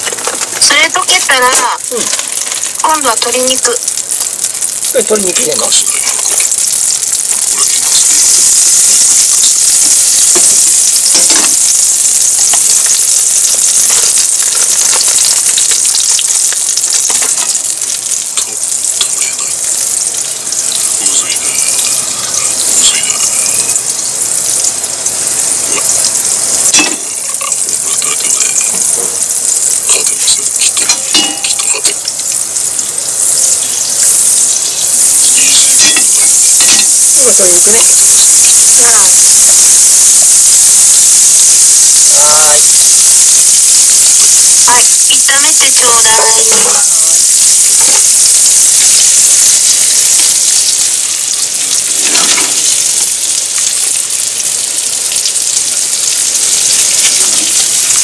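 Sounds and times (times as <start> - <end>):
butter sizzling in frying pan: 0.0 - 58.0.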